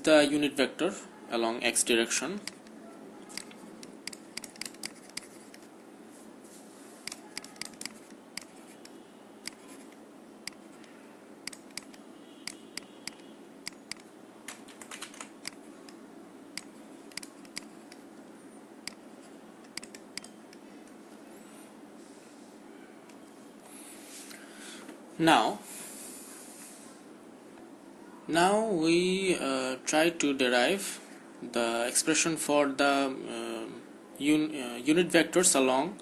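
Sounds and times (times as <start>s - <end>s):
low background noise: 0.0s - 36.0s.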